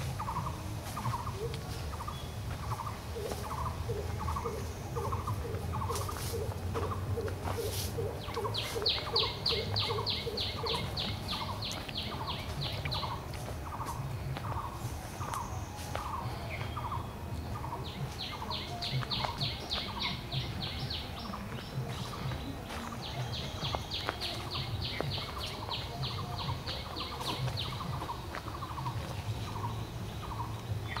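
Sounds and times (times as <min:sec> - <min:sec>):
high bird chirps: 0:00.0 - 0:31.0.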